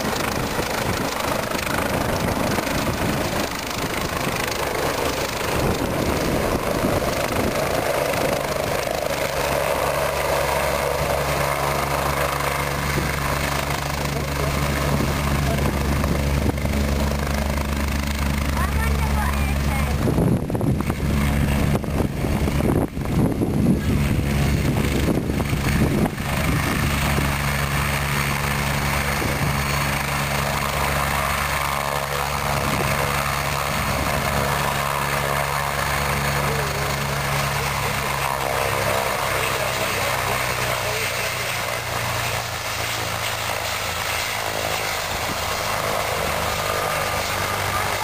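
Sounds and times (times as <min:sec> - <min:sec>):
helicopter engines and rotor droning: 0:00.0 - 0:48.0
rotor wash buffeting microphone: 0:00.0 - 0:48.0.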